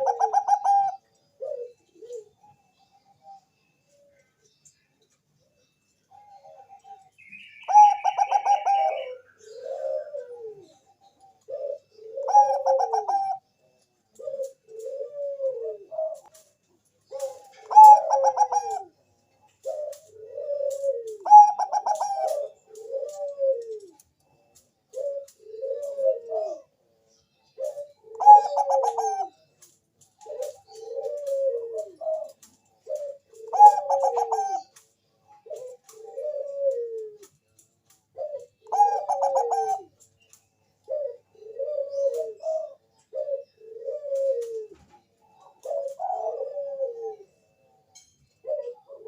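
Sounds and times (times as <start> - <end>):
dove cooing: 0.0 - 4.2, 6.1 - 49.0.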